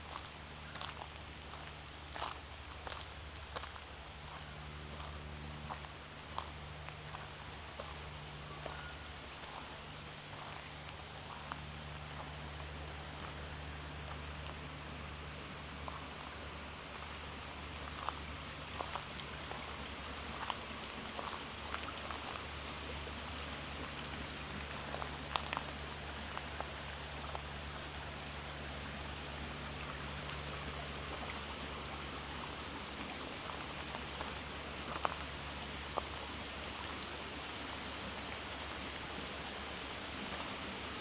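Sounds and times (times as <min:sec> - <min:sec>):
steady hiss: 0:05.6 - 0:41.0.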